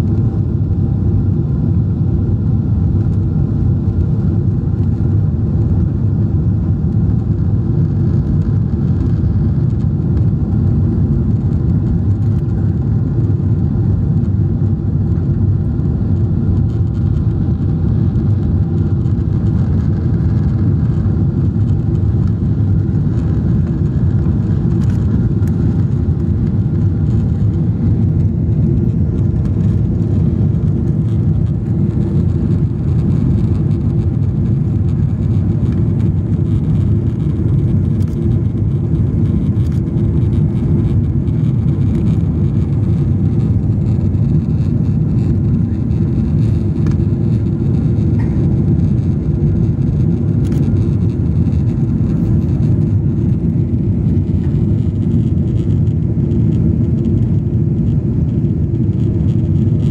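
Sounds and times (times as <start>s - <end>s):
airliner cabin engine noise: 0.0s - 59.9s.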